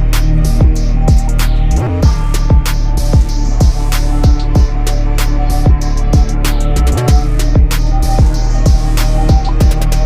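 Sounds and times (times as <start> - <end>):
trap beat with deep kicks: 0.0 - 10.0.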